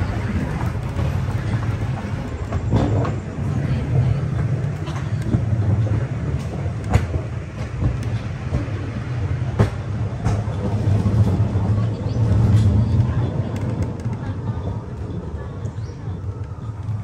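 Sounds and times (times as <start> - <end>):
rail cart rumbling: 0.0 - 17.0
wheels clacking over rails: 0.0 - 17.0.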